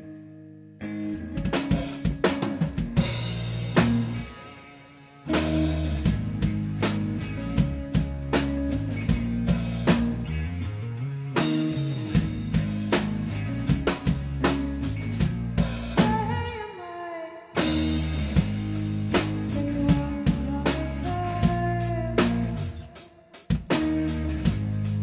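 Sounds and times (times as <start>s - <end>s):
drum kit: 0.8s - 16.4s, 17.6s - 25.0s
indie rock band playing: 0.8s - 16.5s, 17.6s - 25.0s.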